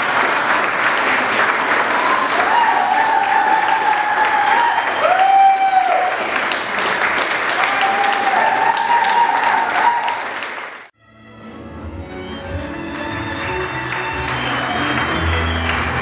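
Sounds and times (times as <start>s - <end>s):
audience clapping: 0.0s - 10.9s, 12.2s - 16.0s.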